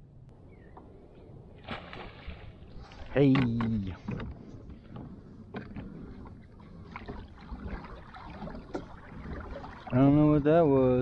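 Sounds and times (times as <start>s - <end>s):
water lapping against hull: 1.5s - 11.0s.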